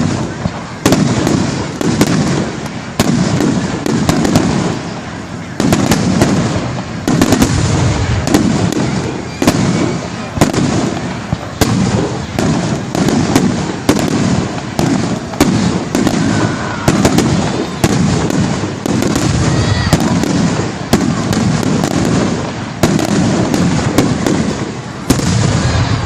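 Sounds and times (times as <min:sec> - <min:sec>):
deep rolling firework booms: 0:00.0 - 0:26.0
sharp firework cracks: 0:00.0 - 0:26.0.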